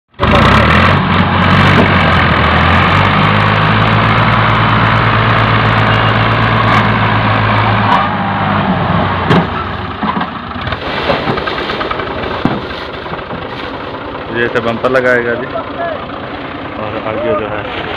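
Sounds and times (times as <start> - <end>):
tractor diesel engines running: 0.1 - 17.9.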